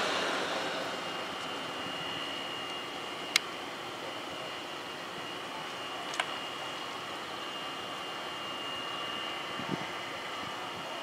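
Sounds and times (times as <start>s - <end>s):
jet engines hissing and whining: 0.0s - 11.0s.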